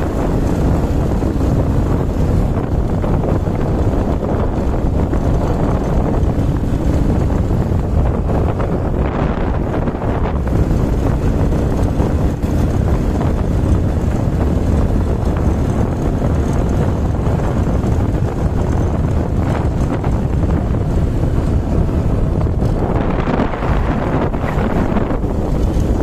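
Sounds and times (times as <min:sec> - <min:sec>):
engine and tyre rumble: 0:00.0 - 0:26.0
wind buffeting microphone: 0:00.0 - 0:26.0.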